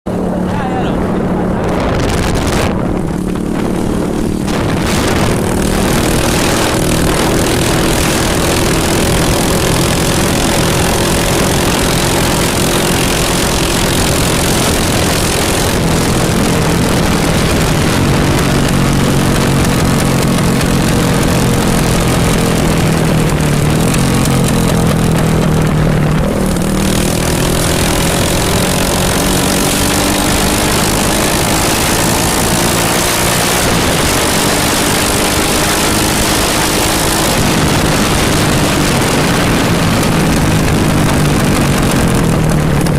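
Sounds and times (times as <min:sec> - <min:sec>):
motorcycle engine running loud: 0:00.0 - 0:42.9.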